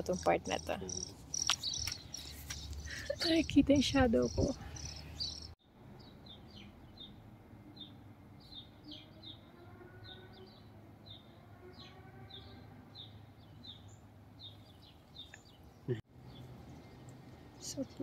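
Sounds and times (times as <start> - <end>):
small bird chirping: 0.0 - 7.2, 7.8 - 18.0.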